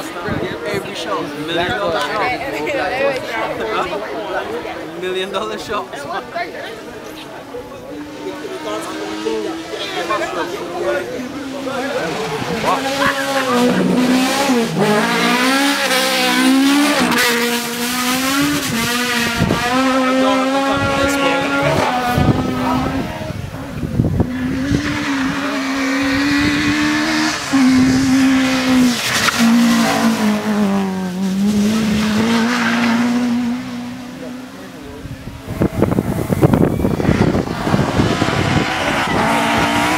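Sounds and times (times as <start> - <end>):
race car engine at high revs: 7.6 - 39.9.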